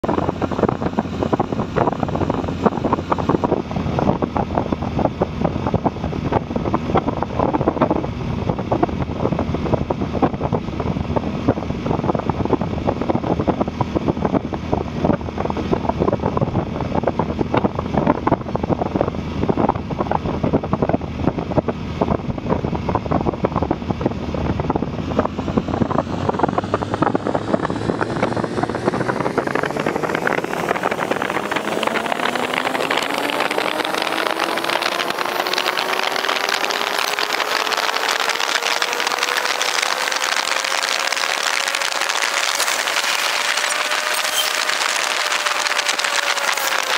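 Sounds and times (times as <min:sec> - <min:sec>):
motorcycle engine running: 0:00.0 - 0:46.9
wind buffeting microphone: 0:00.0 - 0:46.9.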